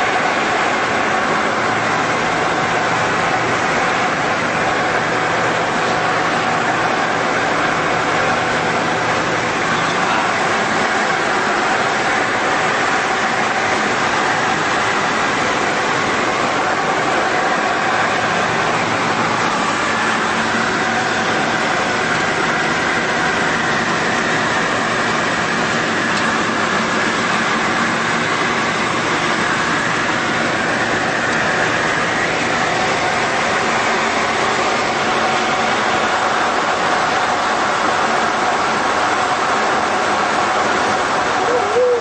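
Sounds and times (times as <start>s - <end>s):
light aircraft engine and airflow: 0.0s - 42.0s.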